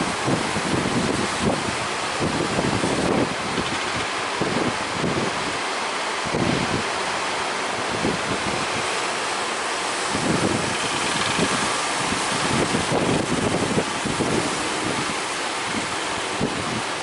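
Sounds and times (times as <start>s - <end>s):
wind buffeting microphone: 0.0s - 5.6s, 6.2s - 17.0s
sea waves breaking: 0.0s - 17.0s.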